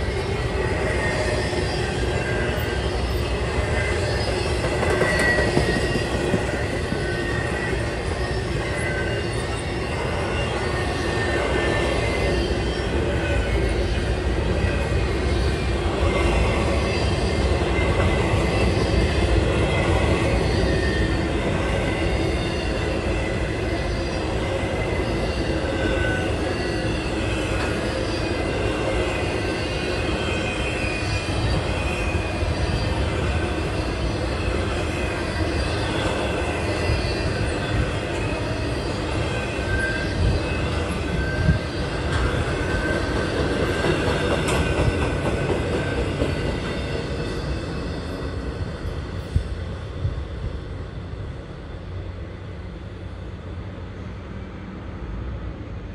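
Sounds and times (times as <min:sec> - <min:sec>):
wheel squeals: 0:00.0 - 0:48.5
train wheels rumbling on rails: 0:00.0 - 0:55.9.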